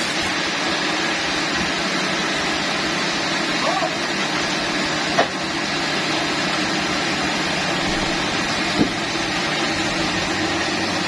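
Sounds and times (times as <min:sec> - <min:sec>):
sawmill machinery humming: 0:00.0 - 0:11.0.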